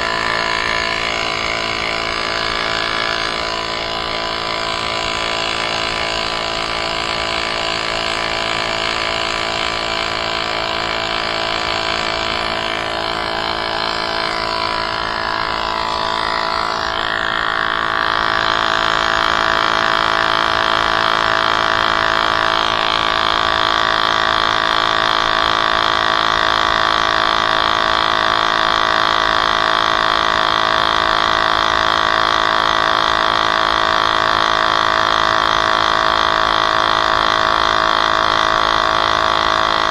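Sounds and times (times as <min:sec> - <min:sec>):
electric air compressor running: 0:00.0 - 0:39.9.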